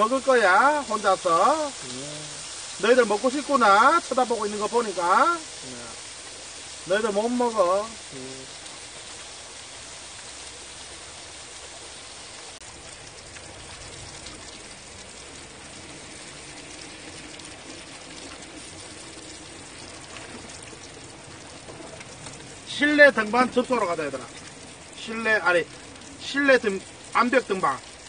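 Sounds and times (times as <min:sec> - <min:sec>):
meat sizzling on grill: 0:00.0 - 0:27.8
rain hissing: 0:00.0 - 0:28.0.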